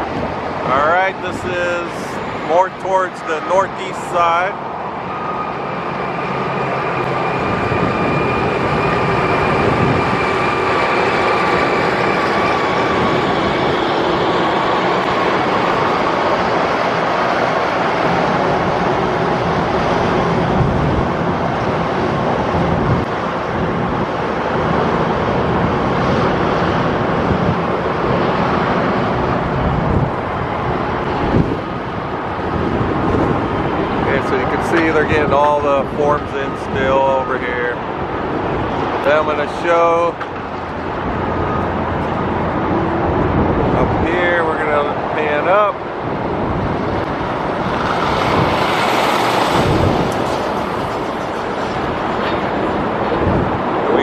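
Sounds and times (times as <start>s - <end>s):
vehicle noise: 0.0s - 54.0s.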